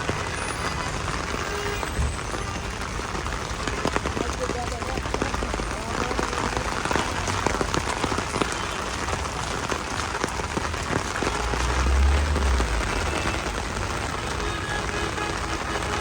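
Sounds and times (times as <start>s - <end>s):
heavy rain on hard surface: 0.0s - 16.0s.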